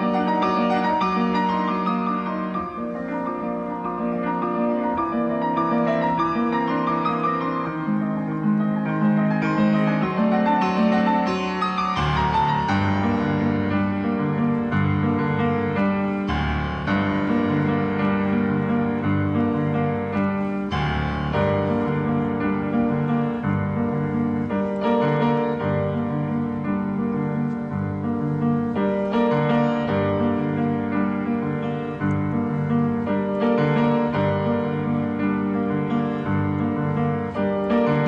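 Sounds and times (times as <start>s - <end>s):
minimalist piano music: 0.0s - 38.0s.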